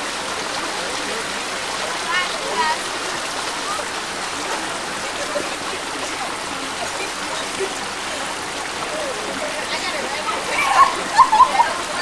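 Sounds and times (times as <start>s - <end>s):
creek rushing: 0.0s - 12.0s
faint voices: 0.0s - 12.0s.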